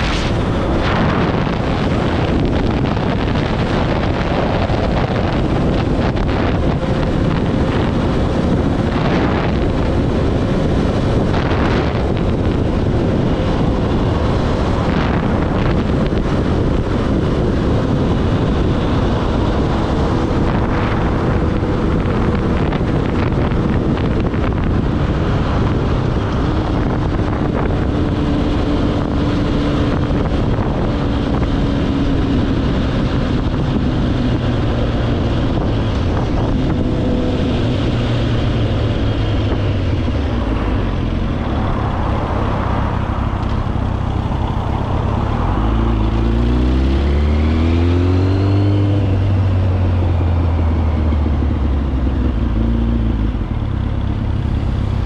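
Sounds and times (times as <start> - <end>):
quad engine running: 0.0 - 55.0
wind buffeting microphone: 0.0 - 55.0.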